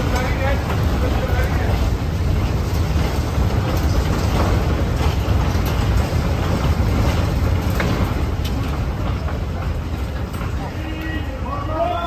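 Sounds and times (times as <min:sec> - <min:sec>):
casters rolling on concrete: 0:00.0 - 0:12.0.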